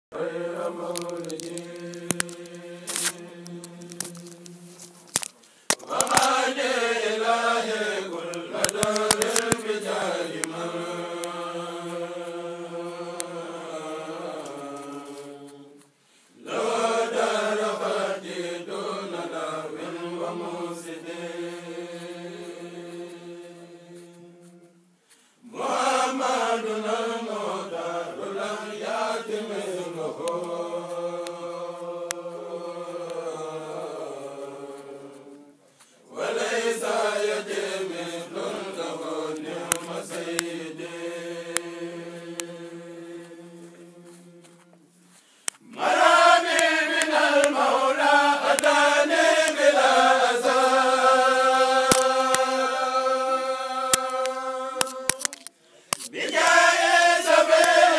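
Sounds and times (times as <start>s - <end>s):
men chanting in unison: 5.9s - 15.8s, 16.4s - 24.7s, 25.4s - 35.5s, 36.1s - 44.6s, 45.7s - 55.2s, 56.2s - 57.9s.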